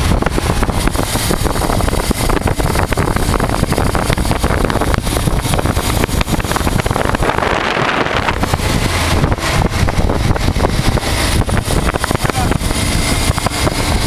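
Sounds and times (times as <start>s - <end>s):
motorcycle engine running: 0.0s - 14.0s
wind buffeting on microphone: 0.0s - 14.0s.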